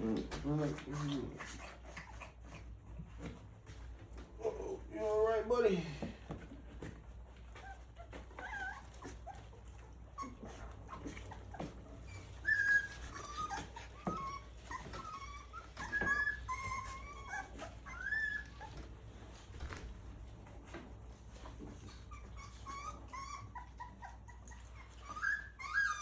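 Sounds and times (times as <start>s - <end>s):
puppies whimpering and squeaking: 0.0s - 26.0s.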